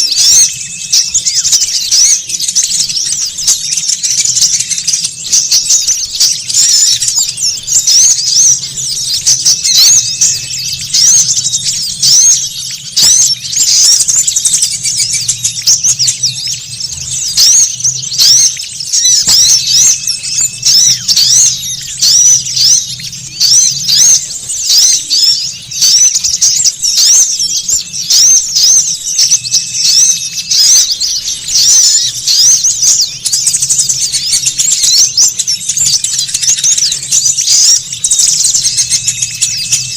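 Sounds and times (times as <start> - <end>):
songbirds chirping rapidly: 0.0 - 39.9.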